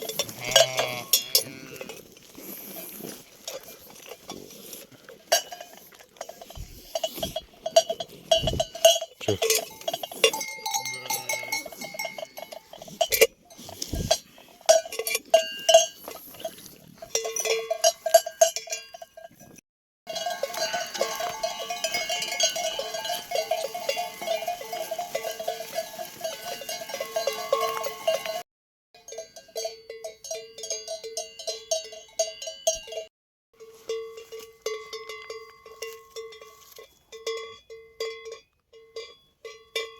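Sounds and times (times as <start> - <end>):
livestock bells clanking: 0.0 - 28.4, 29.0 - 39.9.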